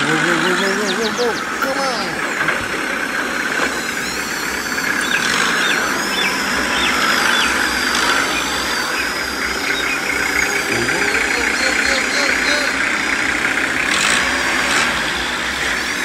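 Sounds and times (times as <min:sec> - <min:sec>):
high falling chirps: 0:00.0 - 0:14.2
tractor engine idling: 0:00.0 - 0:16.0.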